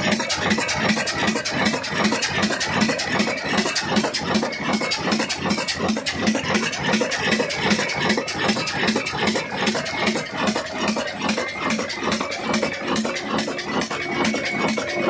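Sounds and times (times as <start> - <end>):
diesel engine running: 0.0 - 15.0
fast clatter of ticks: 0.0 - 15.0.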